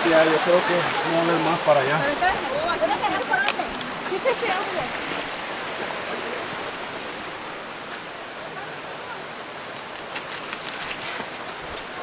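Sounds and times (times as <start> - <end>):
rushing creek water: 0.0 - 12.0.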